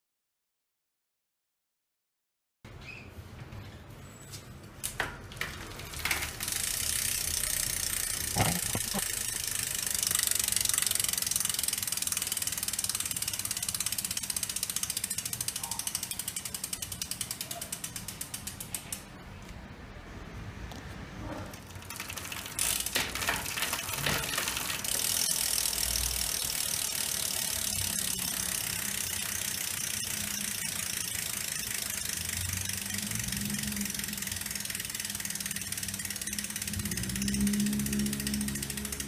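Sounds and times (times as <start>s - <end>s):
bicycle hub freewheel clicking: 4.8s - 19.2s, 21.5s - 39.0s.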